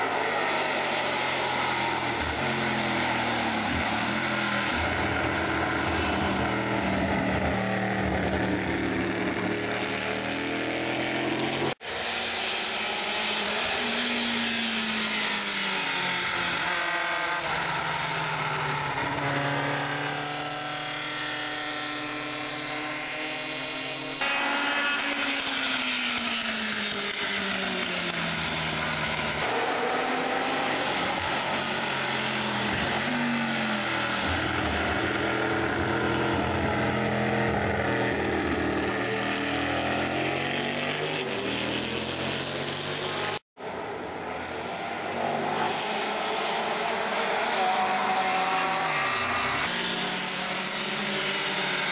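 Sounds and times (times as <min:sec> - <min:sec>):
race car engines passing: 0:00.0 - 0:51.9.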